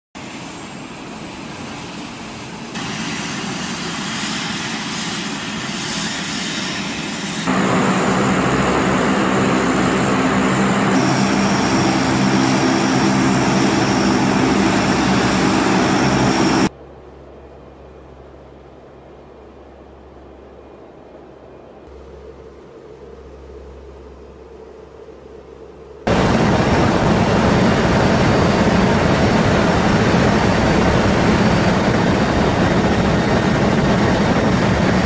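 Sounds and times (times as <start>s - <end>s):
turboprop engines running: 0.2s - 35.0s.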